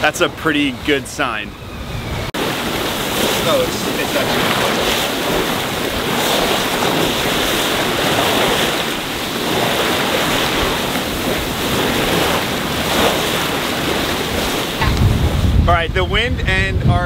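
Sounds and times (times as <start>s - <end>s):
water rushing along boat hull: 0.0s - 16.5s
wind buffeting microphone: 0.0s - 17.0s.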